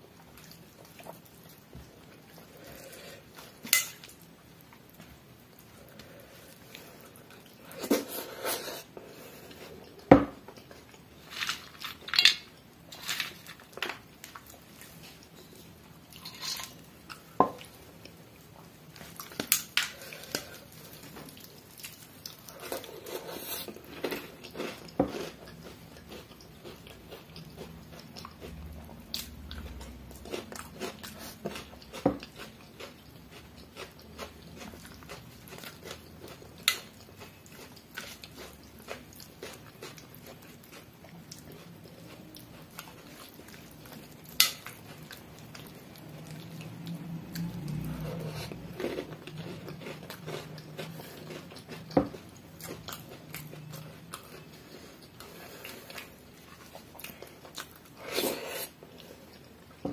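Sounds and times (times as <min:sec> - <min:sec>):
man chewing food: 0:00.0 - 0:59.9.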